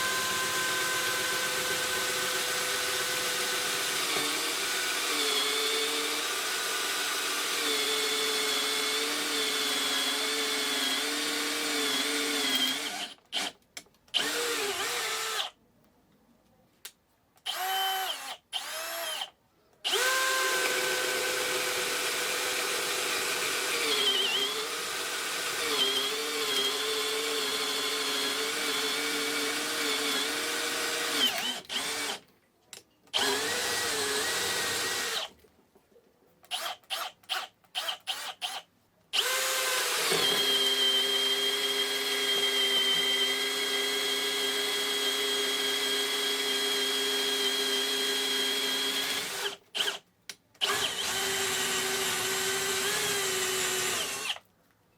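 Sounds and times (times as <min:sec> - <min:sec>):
cordless drill whining: 0:00.0 - 0:13.6, 0:14.2 - 0:15.6, 0:17.5 - 0:32.2, 0:33.2 - 0:35.3, 0:36.5 - 0:50.0, 0:50.6 - 0:54.4.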